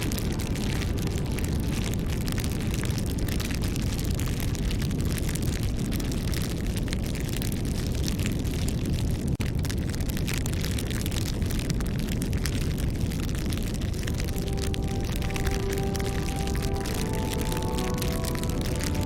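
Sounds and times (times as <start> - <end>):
bonfire low rumble: 0.0 - 19.0
burning wood crackling and popping: 0.0 - 19.0.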